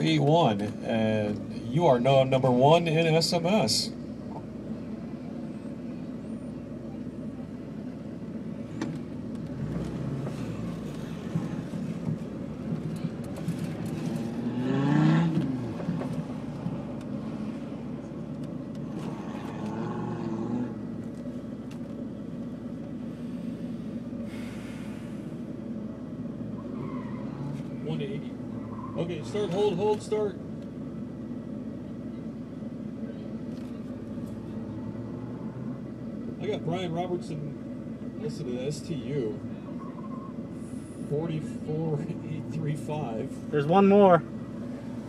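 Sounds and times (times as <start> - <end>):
car engine idling: 0.0 - 45.0
engine rev: 0.0 - 45.0.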